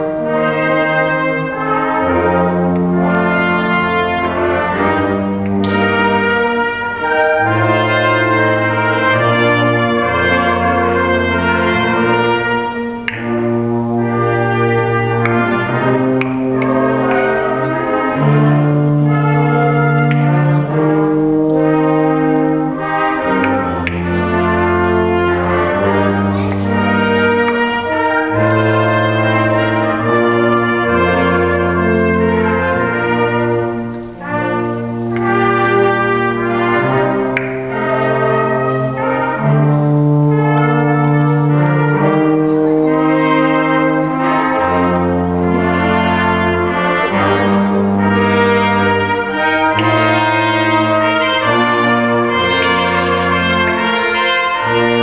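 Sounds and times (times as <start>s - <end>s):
brass ensemble playing: 0.0s - 55.0s.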